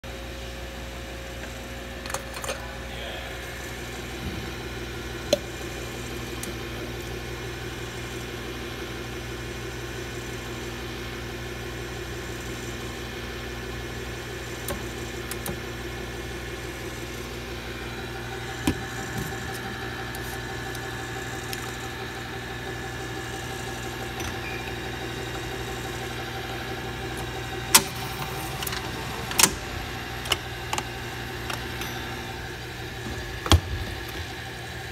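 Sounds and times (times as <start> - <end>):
machinery humming: 0.0 - 34.9.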